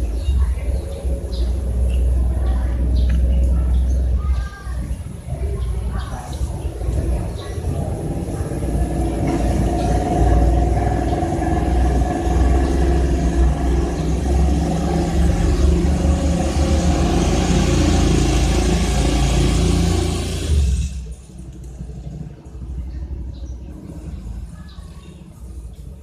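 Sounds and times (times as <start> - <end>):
engine running with hiss: 0.0 - 22.1.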